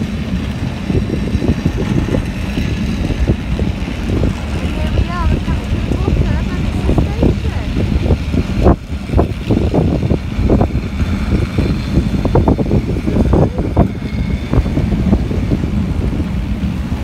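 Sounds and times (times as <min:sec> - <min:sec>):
funicular car rumbling: 0:00.0 - 0:17.0
wheels knocking on rails: 0:00.0 - 0:17.0
wind buffeting microphone: 0:00.0 - 0:17.0.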